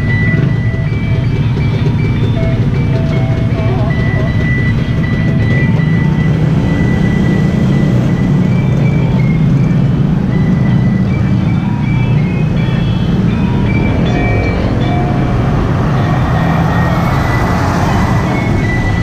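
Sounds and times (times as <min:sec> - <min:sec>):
music playing: 0:00.0 - 0:19.0
traffic engines rumbling: 0:00.0 - 0:19.0.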